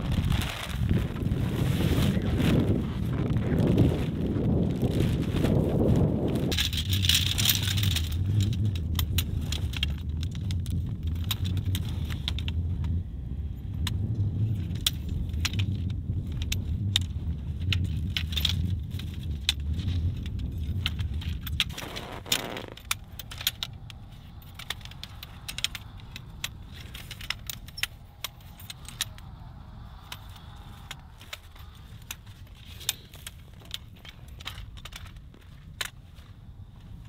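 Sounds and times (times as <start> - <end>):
tent gear clicking and clinking: 0.0 - 37.0
wind on microphone: 0.0 - 37.0.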